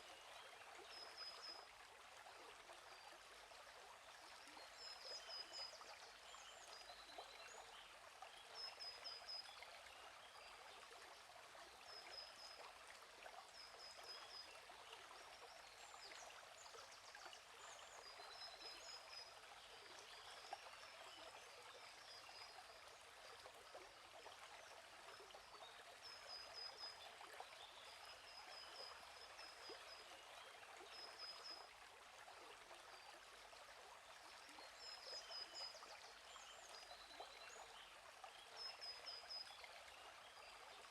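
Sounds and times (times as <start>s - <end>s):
flowing stream: 0.0s - 40.9s.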